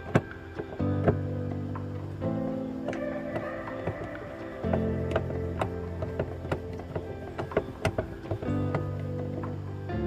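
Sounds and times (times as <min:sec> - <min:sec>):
sustained music chords: 0:00.0 - 0:10.0.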